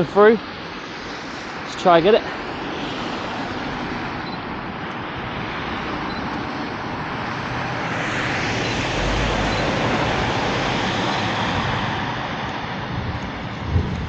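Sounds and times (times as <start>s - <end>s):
lorry passing on snowy road: 2.2s - 14.0s.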